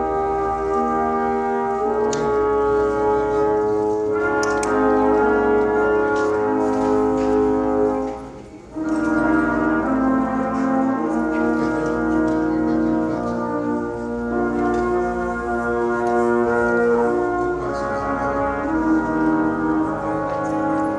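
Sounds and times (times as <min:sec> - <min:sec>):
brass music slow chords: 0:00.0 - 0:20.9.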